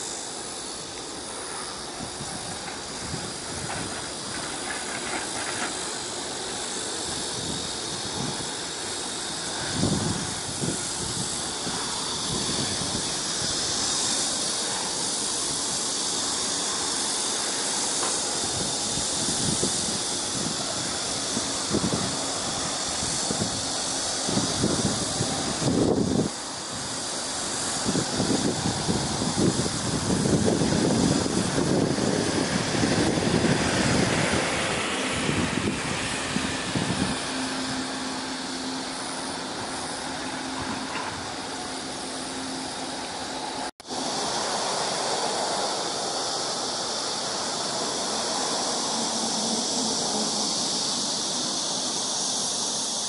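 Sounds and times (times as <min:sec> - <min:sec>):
steady high hiss: 0:00.0 - 0:53.0.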